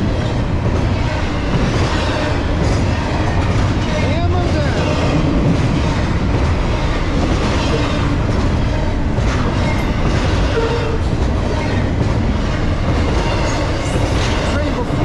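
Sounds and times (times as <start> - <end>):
freight train rumbling and rattling: 0.0 - 15.0.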